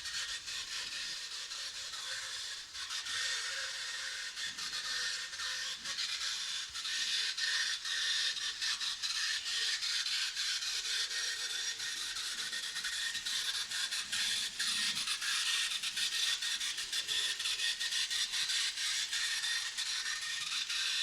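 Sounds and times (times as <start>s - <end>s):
model train clicking on track: 0.0s - 21.0s
model train motor whirring: 0.0s - 21.0s.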